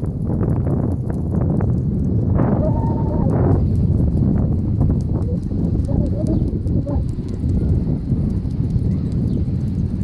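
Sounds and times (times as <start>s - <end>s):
bicycle rumble: 0.0s - 10.0s
dog paws trotting: 0.0s - 10.0s
wind buffeting microphone: 0.0s - 10.0s.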